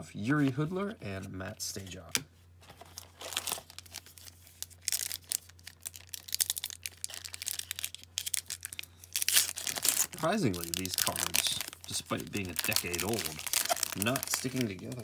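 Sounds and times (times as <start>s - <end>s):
foil wrapper crinkling and tearing: 2.8s - 15.0s.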